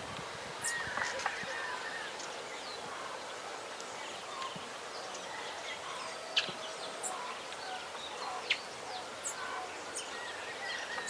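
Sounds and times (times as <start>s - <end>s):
steady hiss: 0.0s - 11.0s
birds chirping: 0.6s - 11.0s.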